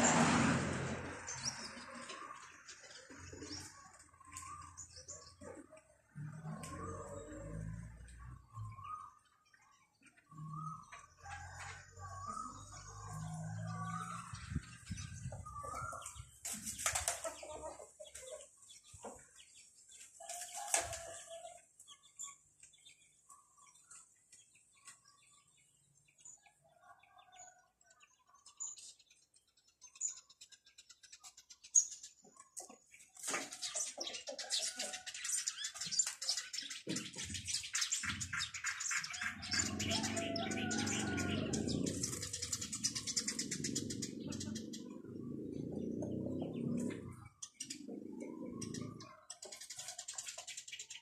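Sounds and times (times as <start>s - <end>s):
small birds chirping: 1.0s - 51.0s.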